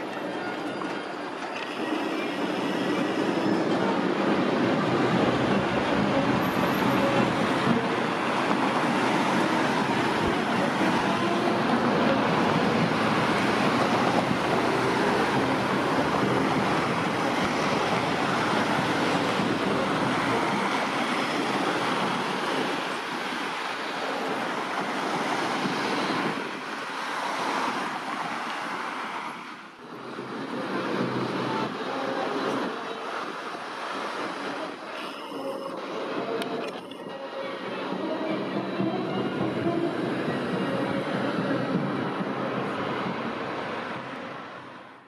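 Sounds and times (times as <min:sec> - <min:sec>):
street traffic: 0:00.0 - 0:45.0
tram running past: 0:00.0 - 0:45.0.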